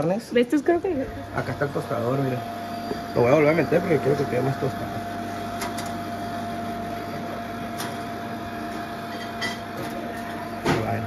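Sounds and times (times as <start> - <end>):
toaster electric hum: 0.0 - 11.0.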